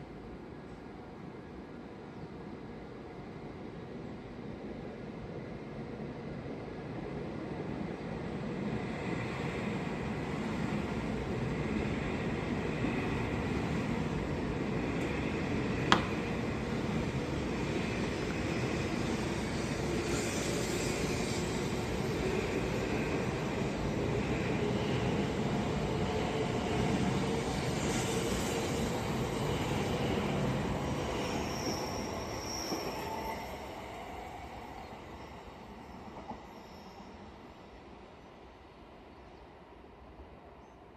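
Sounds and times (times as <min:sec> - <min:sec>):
train rolling past: 0:06.6 - 0:39.8.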